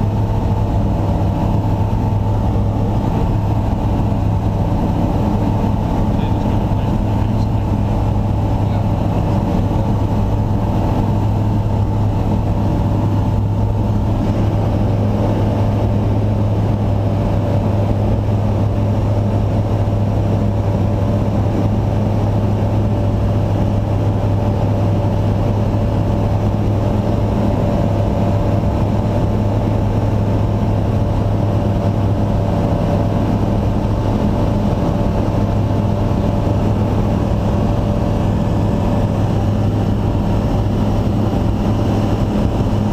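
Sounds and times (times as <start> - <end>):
engine droning steadily: 0.0 - 42.9.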